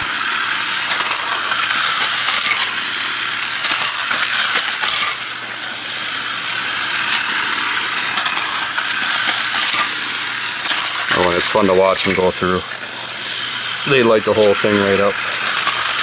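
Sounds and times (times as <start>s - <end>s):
toy cars rattling on plastic track: 0.0s - 16.0s.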